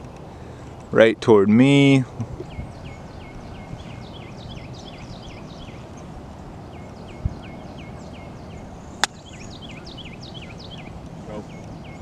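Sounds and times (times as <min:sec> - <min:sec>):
bird chirping: 0:02.1 - 0:12.0.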